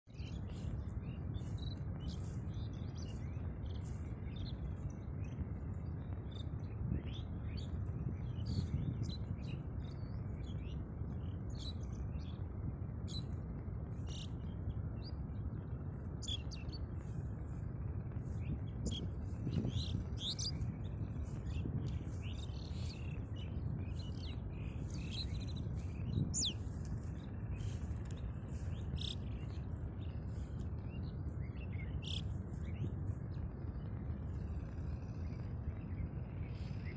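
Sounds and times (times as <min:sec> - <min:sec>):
low background rumble: 0:00.0 - 0:36.9
small birds chirping: 0:00.0 - 0:36.9.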